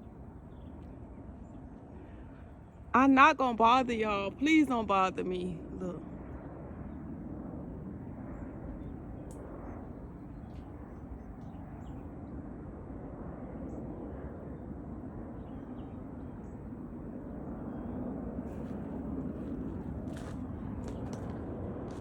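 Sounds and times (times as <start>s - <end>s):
aircraft flying over: 0.0s - 22.0s.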